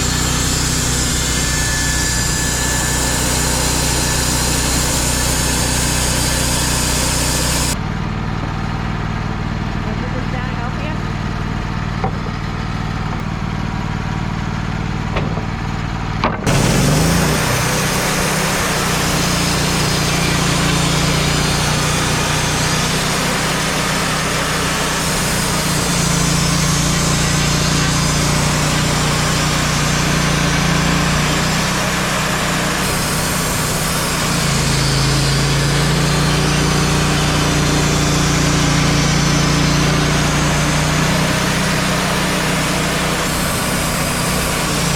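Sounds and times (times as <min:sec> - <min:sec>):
band saw cutting log: 0:00.0 - 0:07.8, 0:09.8 - 0:44.9
sawmill engine running: 0:00.0 - 0:44.9.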